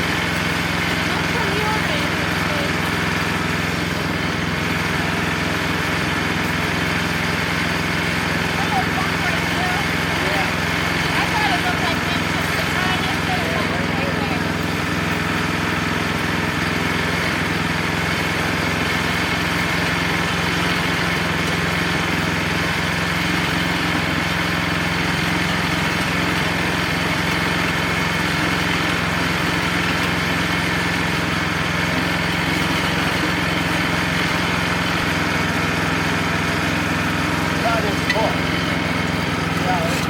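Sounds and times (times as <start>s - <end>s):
sawmill engine running: 0.0s - 40.0s.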